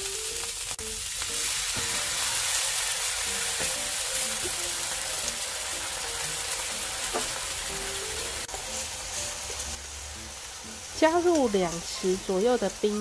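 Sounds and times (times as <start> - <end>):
greens sizzling in a wok: 0.0 - 13.0.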